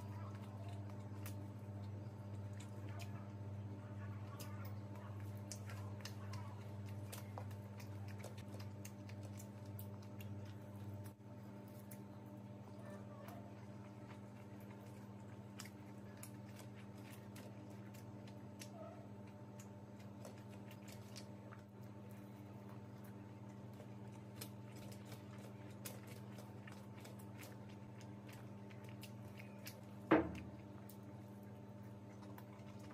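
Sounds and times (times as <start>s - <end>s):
fingers squishing rice: 0.0s - 32.9s
steady low hum: 0.0s - 32.9s
wet chewing smacks: 0.0s - 32.9s.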